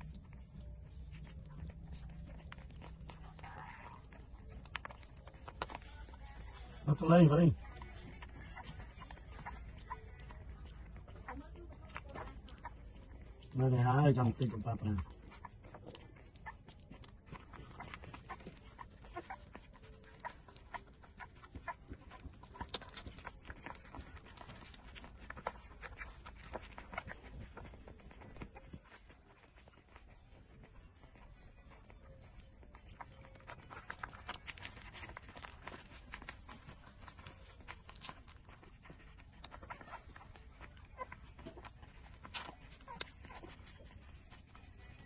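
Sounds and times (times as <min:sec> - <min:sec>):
puppies squeaking: 0:00.0 - 0:45.0
puppies sucking: 0:00.0 - 0:45.0.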